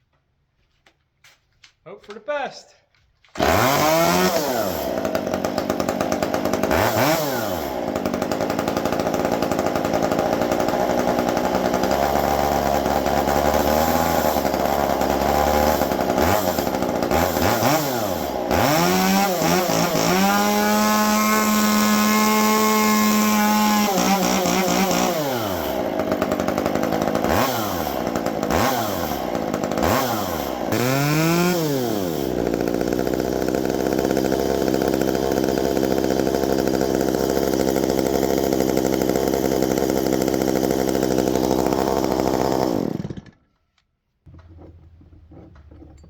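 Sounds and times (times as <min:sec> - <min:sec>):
chainsaw revving: 0:03.3 - 0:43.5.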